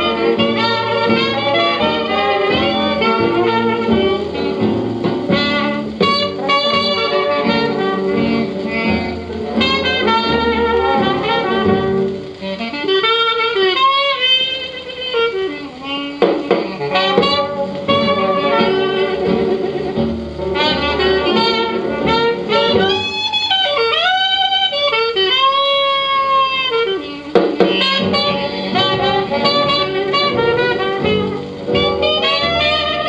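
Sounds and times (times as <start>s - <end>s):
old jazz record: 0.0s - 33.0s
saxophone with sliding notes: 0.0s - 33.0s.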